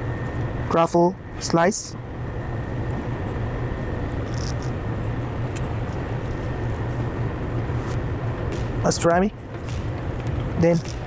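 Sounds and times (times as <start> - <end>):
faint high whine: 0.0 - 11.0
low machine hum: 0.0 - 11.0.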